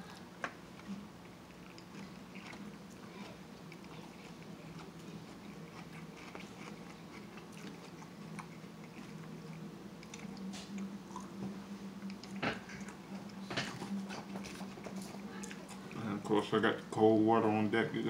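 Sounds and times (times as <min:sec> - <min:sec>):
chewing and biting: 0:00.0 - 0:16.2
steady low hum: 0:00.0 - 0:18.0.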